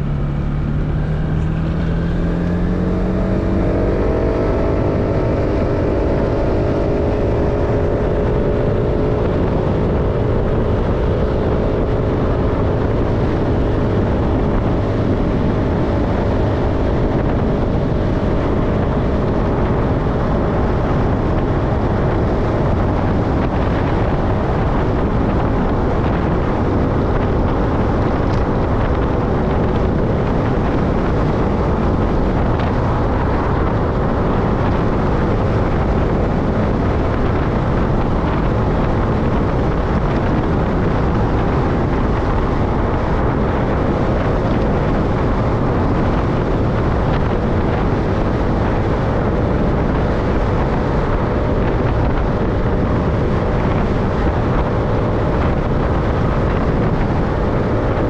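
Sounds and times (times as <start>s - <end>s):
vehicle engine running: 0.0s - 58.0s
wind rushing over microphone: 0.0s - 58.0s.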